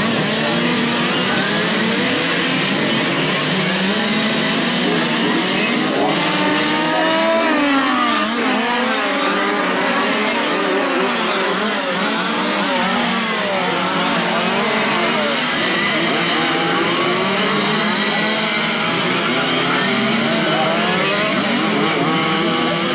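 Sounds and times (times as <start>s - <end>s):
racing car engines revving: 0.0s - 22.9s.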